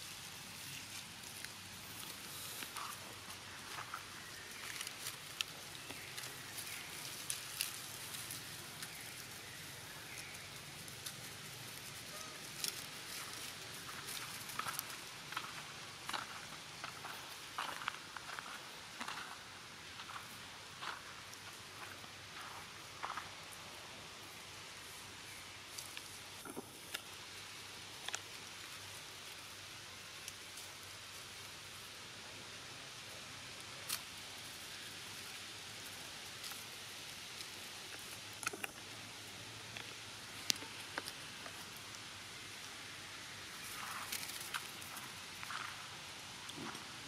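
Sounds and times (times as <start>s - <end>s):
dry leaves rustling and crackling: 0.0s - 47.0s
outdoor background noise: 0.0s - 47.0s.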